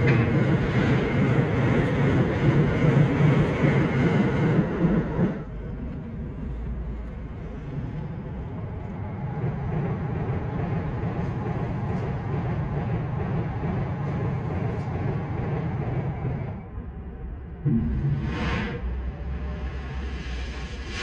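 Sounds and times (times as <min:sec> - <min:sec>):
train rumbling by: 0:00.0 - 0:21.0.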